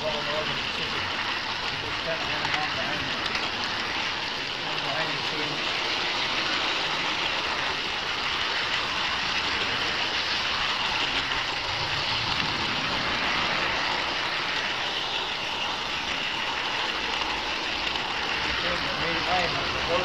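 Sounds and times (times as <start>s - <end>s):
model train wheels rolling on rail: 0.0s - 20.0s.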